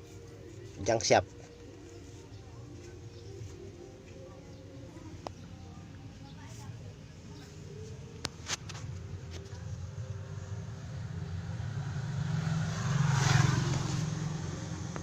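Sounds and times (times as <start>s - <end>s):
fan motor humming: 0.0s - 15.0s.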